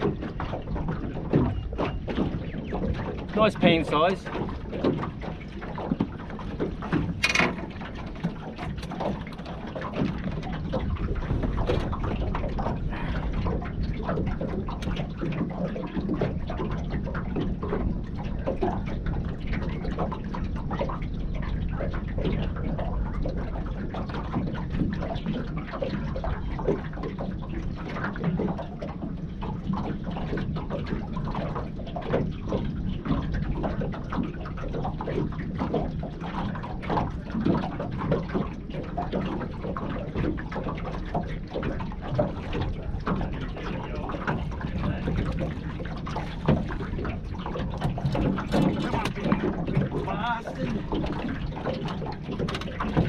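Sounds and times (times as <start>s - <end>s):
water splashing and trickling: 0.0s - 53.0s.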